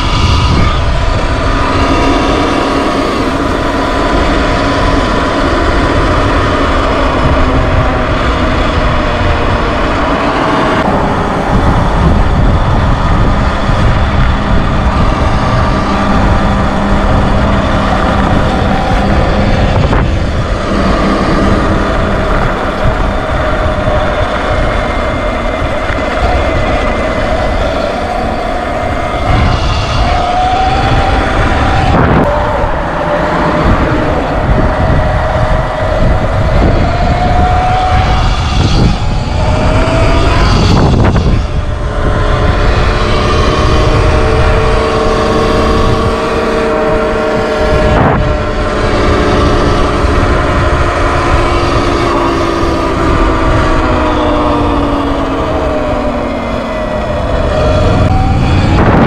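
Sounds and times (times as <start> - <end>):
electric motor whine: 0.0 - 59.0
wind buffeting microphone: 0.0 - 59.0.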